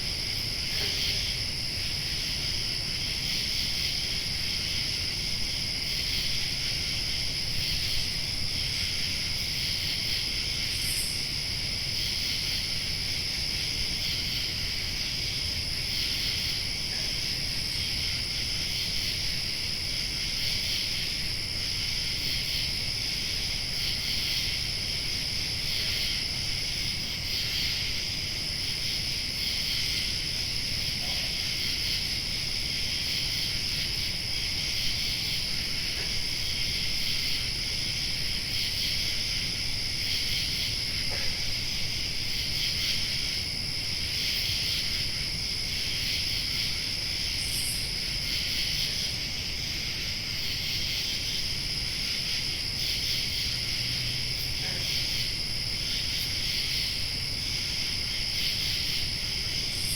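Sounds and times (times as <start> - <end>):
crickets trilling: 0.0 - 59.9
high insect whine: 0.0 - 59.9.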